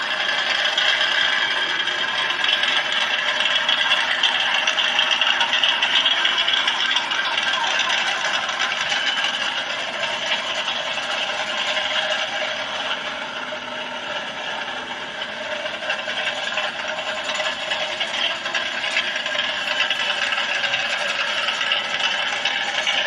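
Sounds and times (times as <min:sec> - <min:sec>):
car engine running with rattle: 0:00.0 - 0:23.0.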